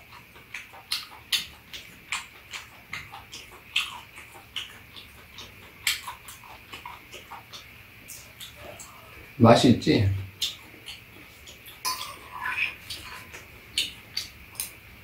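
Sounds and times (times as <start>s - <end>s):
chewing and lip-smacking: 0.0s - 9.4s, 10.2s - 15.0s.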